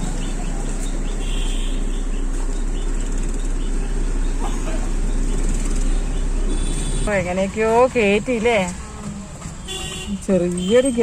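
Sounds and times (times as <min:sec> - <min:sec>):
car cabin road rush: 0:00.0 - 0:11.0.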